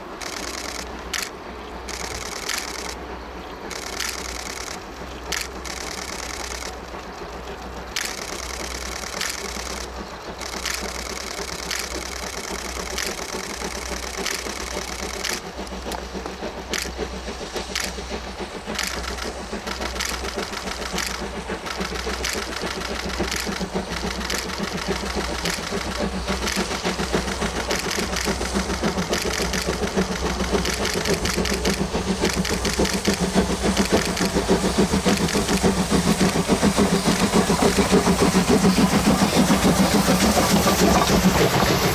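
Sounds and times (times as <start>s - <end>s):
steam locomotive exhaust beating: 0.0s - 41.9s.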